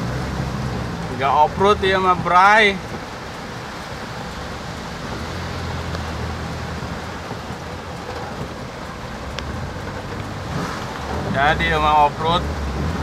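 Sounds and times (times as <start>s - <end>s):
heavy rain hissing: 0.0s - 13.0s
vehicle engine humming: 0.0s - 13.0s.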